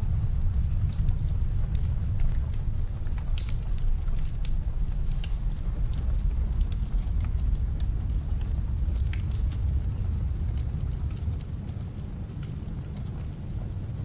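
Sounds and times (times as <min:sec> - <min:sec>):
blizzard wind rumble: 0:00.0 - 0:14.0
wood fire crackling: 0:00.0 - 0:14.0.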